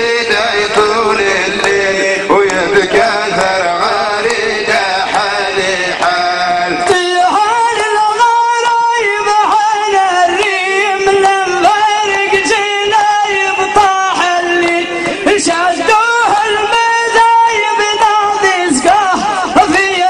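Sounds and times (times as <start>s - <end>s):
man singing folk melody: 0.0s - 20.0s.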